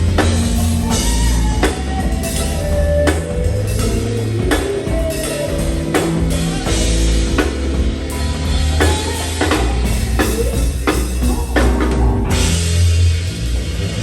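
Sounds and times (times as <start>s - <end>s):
drum kit beat: 0.0s - 14.0s
heavy bass notes: 0.0s - 14.0s.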